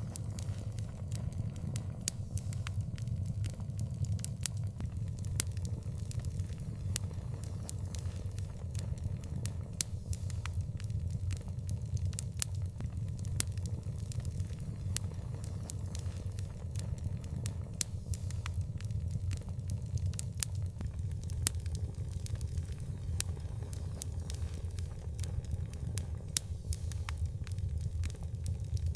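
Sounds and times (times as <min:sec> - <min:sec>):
low fire rumble: 0:00.0 - 0:28.9
wood fire crackling and popping: 0:00.0 - 0:28.9.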